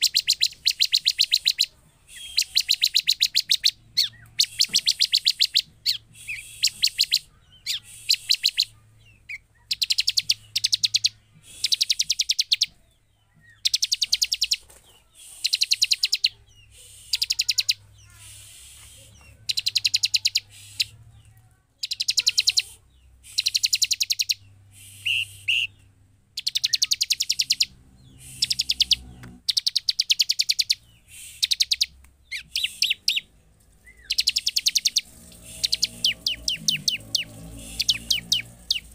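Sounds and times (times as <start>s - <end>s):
bird calling high ticking notes: 0.0s - 8.7s, 9.3s - 12.8s, 13.6s - 14.6s, 18.5s - 20.9s, 21.8s - 38.9s.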